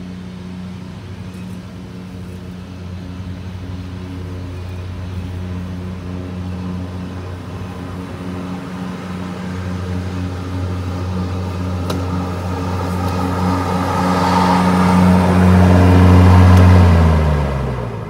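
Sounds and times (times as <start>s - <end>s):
lawn mower running: 0.0s - 18.0s.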